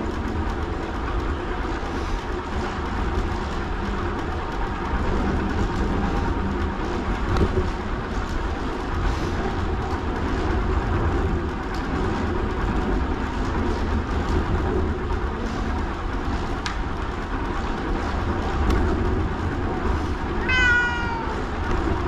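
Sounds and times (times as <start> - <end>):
bicycle rolling road noise: 0.0 - 22.0.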